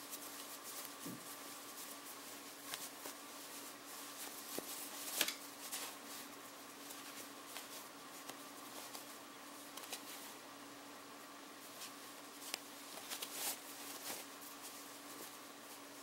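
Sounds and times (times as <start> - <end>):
fabric rustling: 0.0 - 10.5, 11.3 - 16.0
faint steady hum: 0.0 - 16.0.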